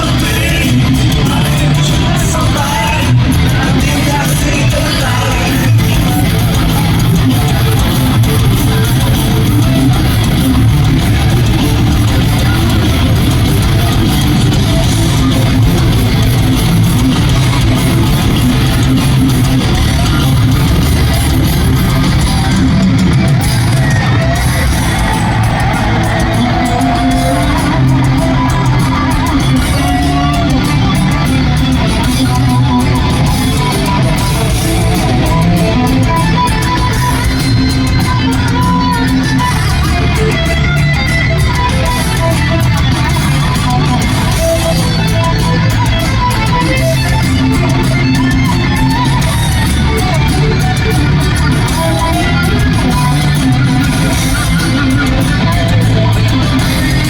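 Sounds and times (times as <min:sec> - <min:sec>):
lead guitar line with bends: 0:00.0 - 0:57.0
metal band playing live: 0:00.0 - 0:57.0.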